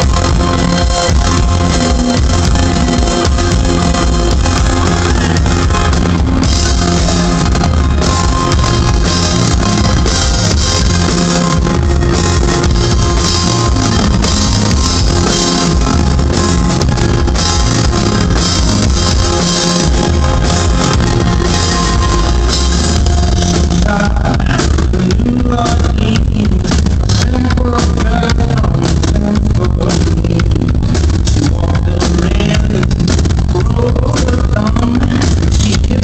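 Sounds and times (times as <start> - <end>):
drum kit: 0.0 - 36.0
electric guitar: 0.0 - 36.0
keyboards: 0.0 - 36.0.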